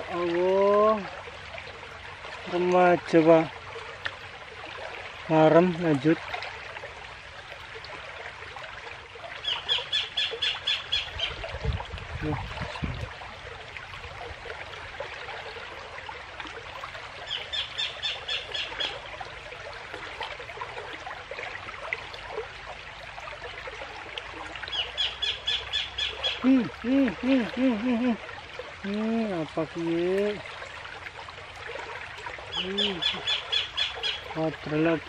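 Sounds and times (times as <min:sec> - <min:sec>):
rushing stream water: 0:00.0 - 0:35.0.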